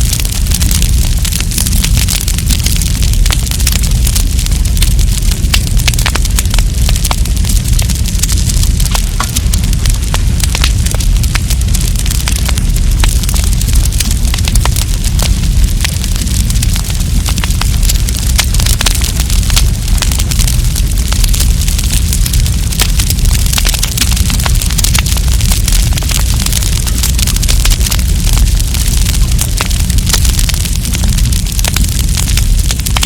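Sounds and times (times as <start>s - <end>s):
burning wood popping and snapping: 0.0s - 33.0s
low rumble of flames: 0.0s - 33.0s.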